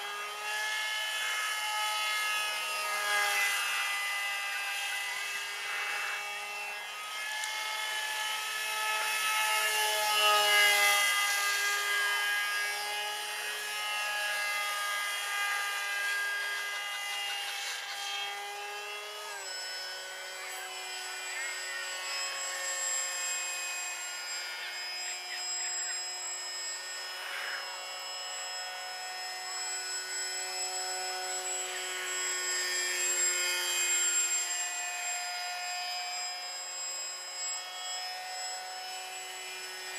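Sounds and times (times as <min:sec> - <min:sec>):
model jet electric motor whining: 0:00.0 - 0:39.9.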